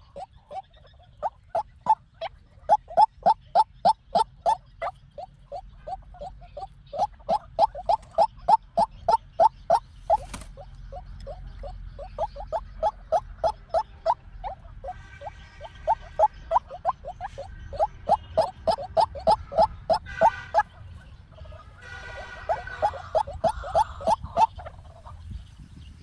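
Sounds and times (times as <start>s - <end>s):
waterhen calling: 0.0s - 25.2s.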